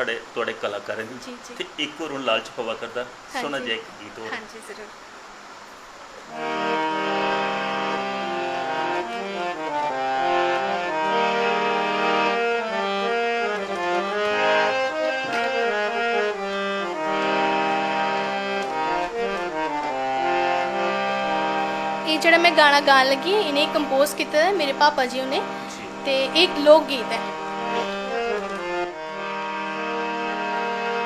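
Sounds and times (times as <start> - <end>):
harmonium playing chords and melody: 3.3 - 4.8, 6.3 - 31.0.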